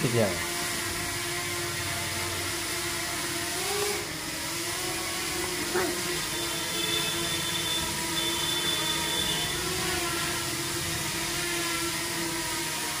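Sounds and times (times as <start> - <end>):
drone propellers whirring: 0.0 - 13.0.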